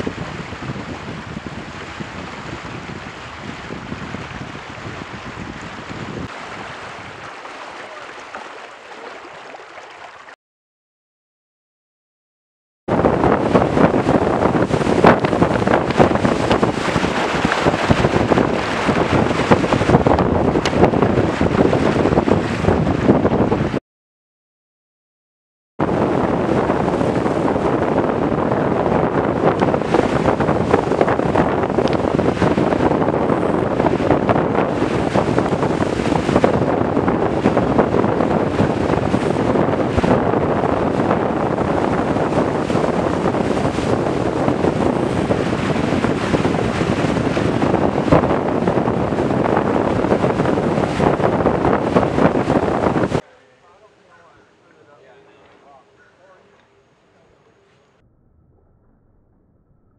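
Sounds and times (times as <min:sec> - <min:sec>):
water rushing and spraying: 0:00.0 - 0:10.4, 0:12.9 - 0:23.8, 0:25.8 - 0:53.2
wind buffeting microphone: 0:00.0 - 0:10.4, 0:12.9 - 0:23.8, 0:25.8 - 0:53.2.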